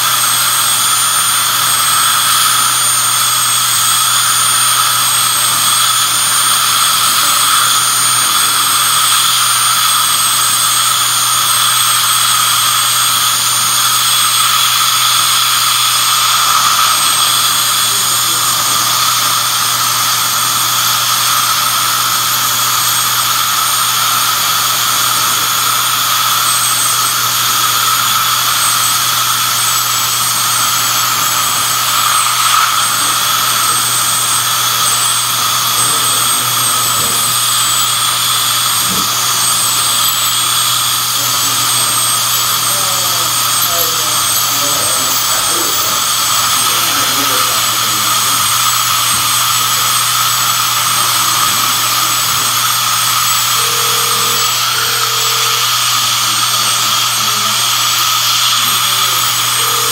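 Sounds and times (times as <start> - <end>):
dental drill whine: 0.0 - 59.9
suction hiss: 0.0 - 59.9.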